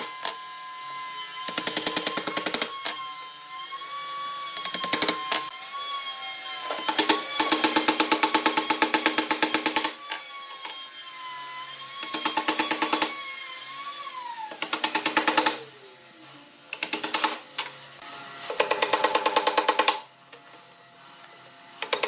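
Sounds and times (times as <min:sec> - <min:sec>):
power tool pulsing: 0:00.0 - 0:20.5.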